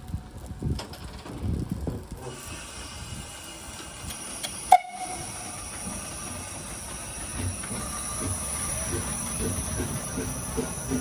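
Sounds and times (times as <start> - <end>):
locomotive low rumbling: 0.0 - 11.0
steam hissing: 0.0 - 11.0.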